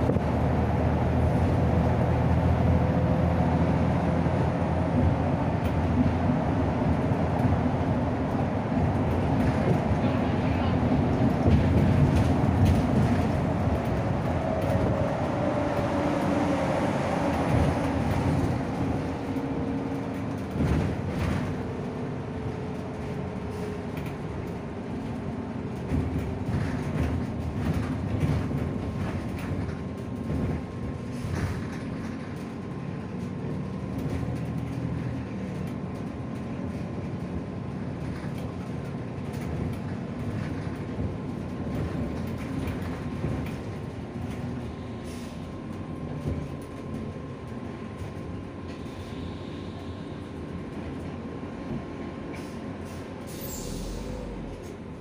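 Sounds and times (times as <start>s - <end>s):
bus drivetrain and road rumble: 0.0s - 55.0s.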